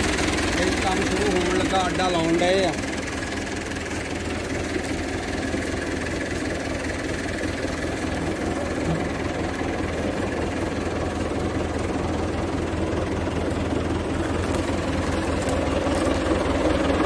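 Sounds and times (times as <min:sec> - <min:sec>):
thresher machine rumble: 0:00.0 - 0:17.0
tractor engine running under load: 0:00.0 - 0:17.0.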